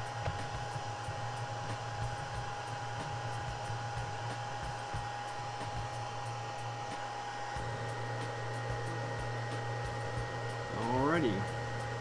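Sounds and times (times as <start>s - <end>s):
air scrubber fan whirring: 0.0s - 12.0s.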